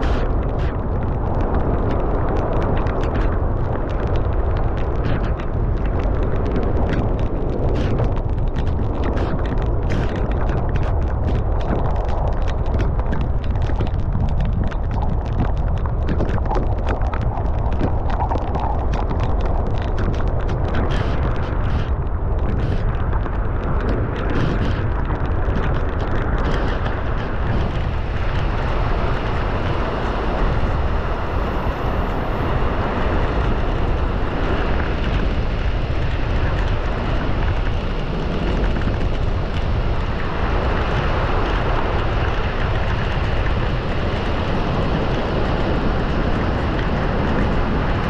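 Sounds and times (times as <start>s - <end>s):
strong wind buffeting microphone: 0.0s - 48.0s.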